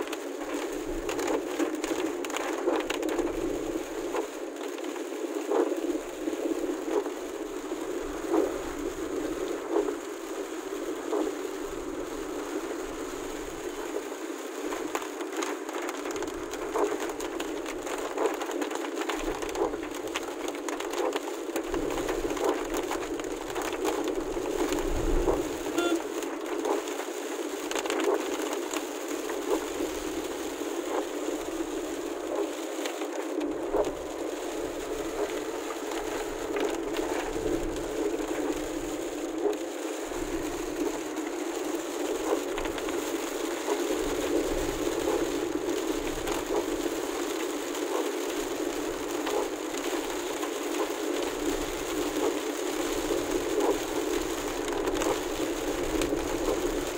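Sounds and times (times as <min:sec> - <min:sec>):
rain hitting car windshield: 0:00.0 - 0:56.9.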